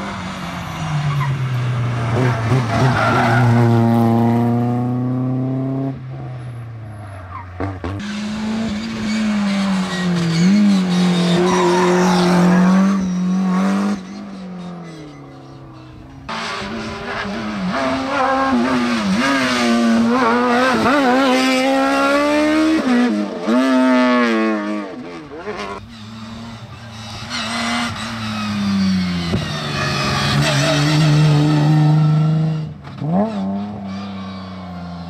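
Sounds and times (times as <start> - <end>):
rally car engine revving: 0.0 - 6.3, 7.6 - 35.0.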